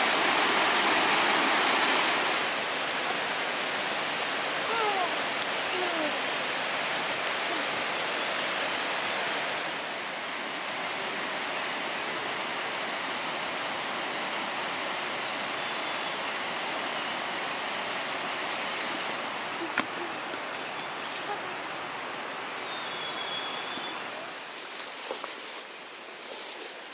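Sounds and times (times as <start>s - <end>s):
flowing water rushing: 0.0s - 26.9s.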